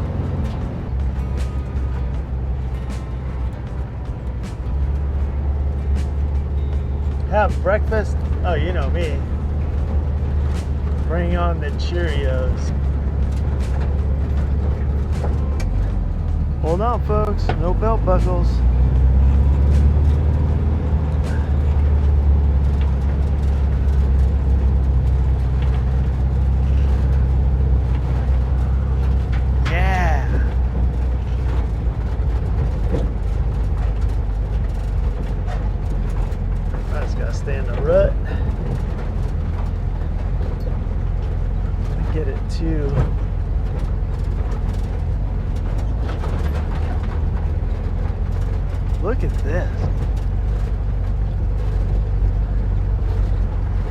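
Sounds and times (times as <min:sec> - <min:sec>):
body knocks and rattles: 0:00.0 - 0:17.6, 0:18.6 - 0:53.9
bus engine running: 0:00.0 - 0:53.9.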